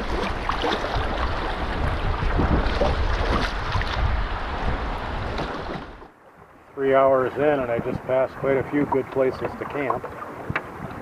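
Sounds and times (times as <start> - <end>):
water rushing in rapids: 0.0 - 11.0
wind buffeting microphone: 0.0 - 11.0.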